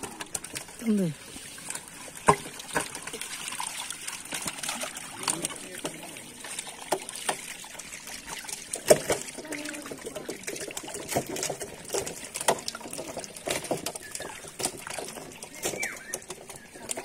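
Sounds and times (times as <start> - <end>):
fish thrashing and splashing: 0.0 - 17.0
water trickling: 0.0 - 17.0.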